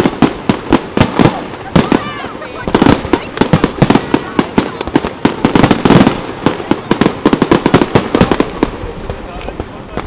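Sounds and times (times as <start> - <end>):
firework shells bursting: 0.0 - 10.0.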